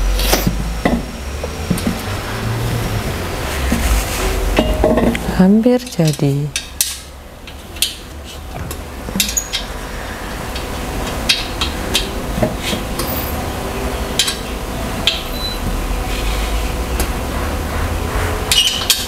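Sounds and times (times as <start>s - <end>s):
low steady hum: 0.0s - 18.6s.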